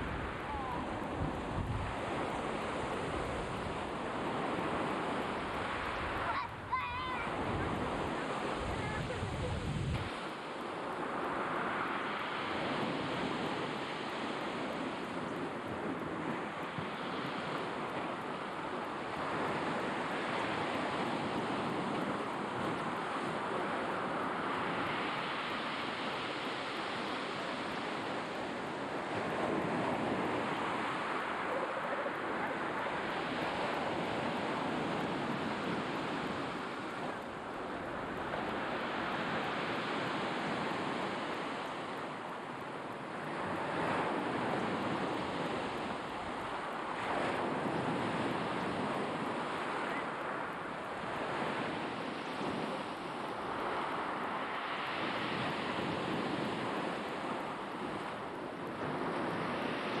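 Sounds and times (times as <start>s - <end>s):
sea waves breaking on shore: 0.0s - 60.0s.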